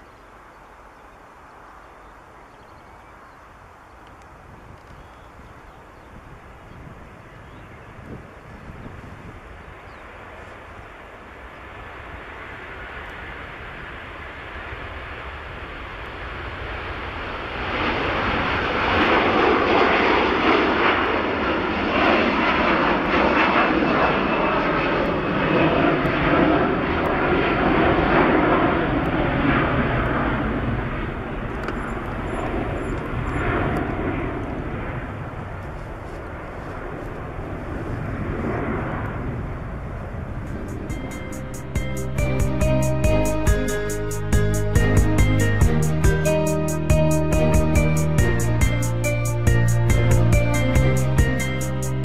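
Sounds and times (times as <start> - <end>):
jetliner taking off: 5.4 - 52.0.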